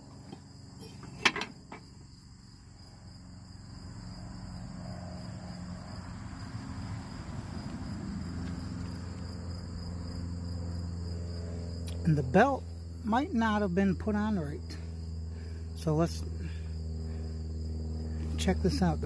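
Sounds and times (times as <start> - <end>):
crickets trilling: 0.0 - 19.0
low humming drone: 0.0 - 19.0.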